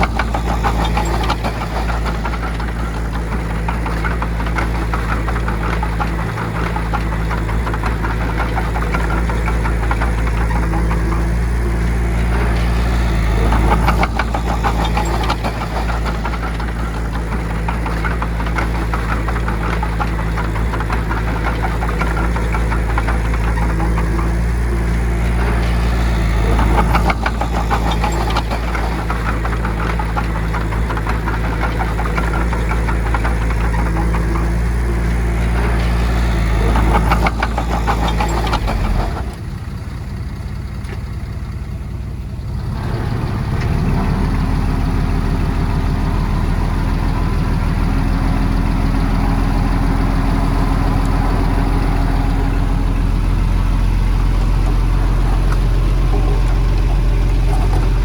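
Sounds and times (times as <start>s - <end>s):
heavy diesel engines running: 0.0s - 58.0s
rapid metallic clatter: 0.0s - 58.0s.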